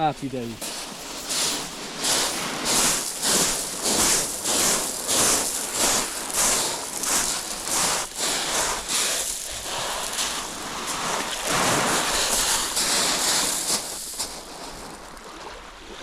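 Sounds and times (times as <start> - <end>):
footsteps crunching on pebbles: 0.0 - 15.1.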